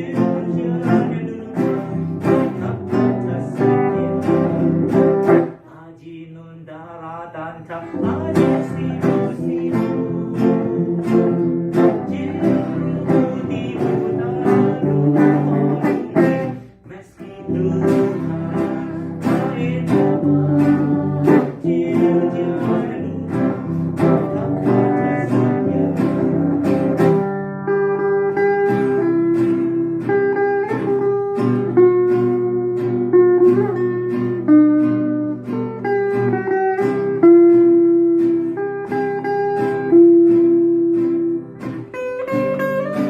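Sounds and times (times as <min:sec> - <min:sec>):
acoustic guitars strumming: 0:00.0 - 0:43.0.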